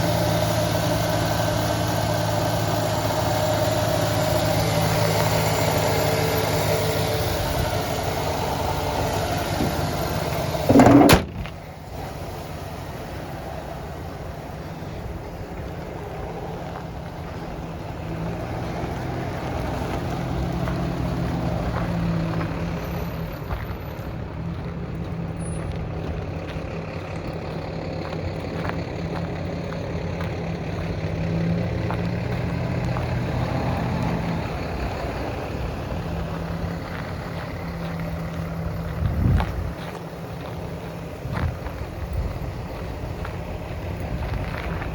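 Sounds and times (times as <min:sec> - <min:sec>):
pickup truck engine running: 0:00.0 - 0:44.9.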